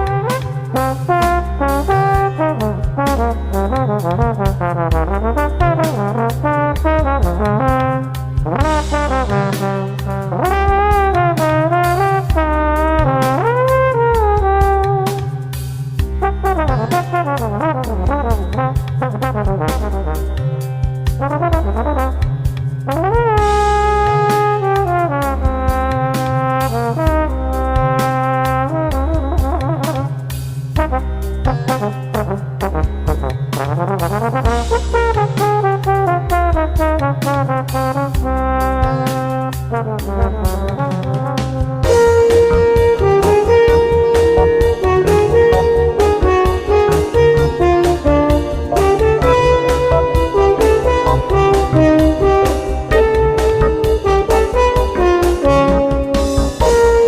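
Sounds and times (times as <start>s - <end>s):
long held lead melody: 0.0s - 28.3s, 38.4s - 57.0s
bass line: 0.0s - 30.2s, 30.8s - 57.0s
steady drum beat: 0.0s - 57.0s
upbeat brass-led music: 0.0s - 57.0s.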